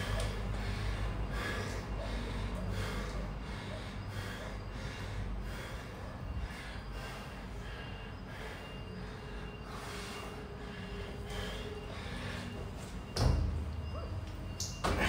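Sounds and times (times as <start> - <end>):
man panting: 0.0 - 12.8
low steady hum: 0.0 - 15.0.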